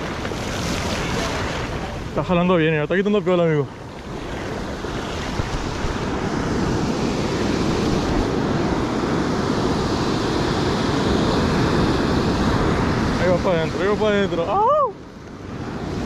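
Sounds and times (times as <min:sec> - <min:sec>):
waves breaking on a beach: 0:00.0 - 0:16.0
wind buffeting microphone: 0:00.0 - 0:16.0.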